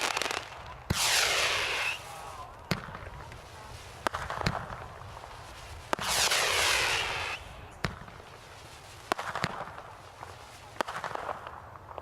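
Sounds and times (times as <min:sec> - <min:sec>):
firework hissing burst: 0:00.0 - 0:11.4
firework bangs and cracks: 0:00.0 - 0:12.0.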